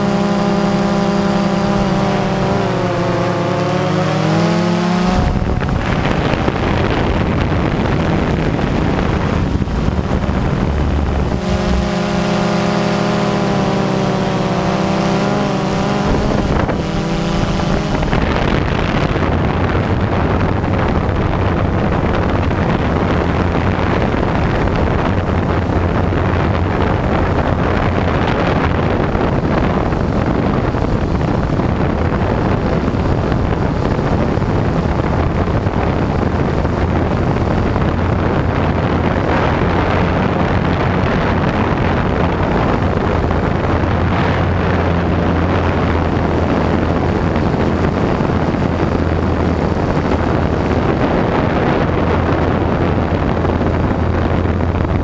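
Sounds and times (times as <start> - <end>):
drone motors and propellers: 0.0 - 55.0
pitched whine: 0.0 - 55.0
wind rushing across microphone: 0.0 - 55.0.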